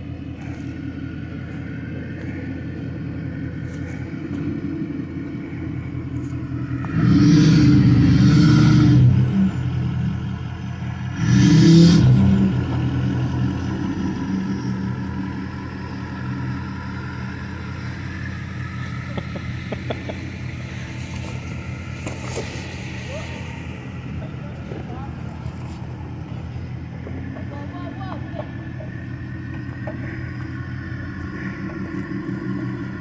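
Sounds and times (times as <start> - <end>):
diesel engine revving: 0.0 - 33.0.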